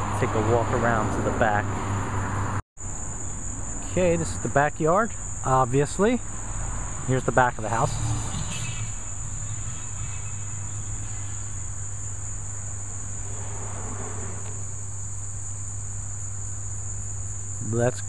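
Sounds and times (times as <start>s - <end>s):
low hum: 0.0s - 17.3s
insects droning: 0.0s - 18.0s.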